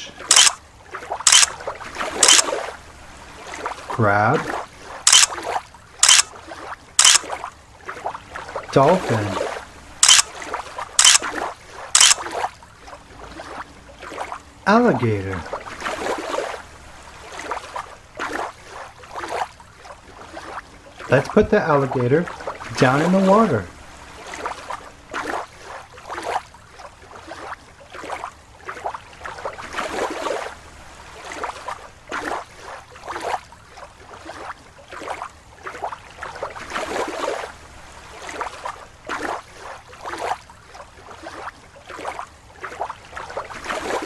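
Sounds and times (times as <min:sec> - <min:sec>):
water sloshing and splashing: 0:00.0 - 0:44.0.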